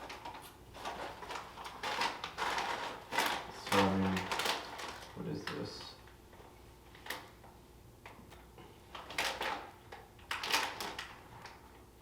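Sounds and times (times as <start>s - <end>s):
plastic snack bags crinkling: 0.0s - 7.4s, 8.9s - 11.8s.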